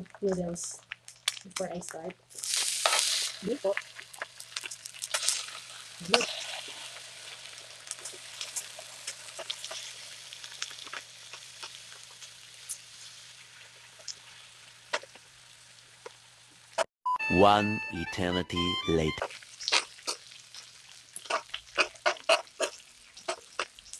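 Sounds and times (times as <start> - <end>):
meat and eggs sizzling on grill: 0.4 - 16.9, 19.2 - 23.9.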